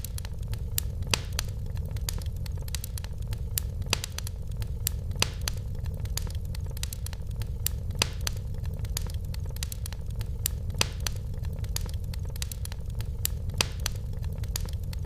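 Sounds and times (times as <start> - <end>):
low rumble of burning fire: 0.0 - 15.0
wood fire crackling: 0.0 - 15.0.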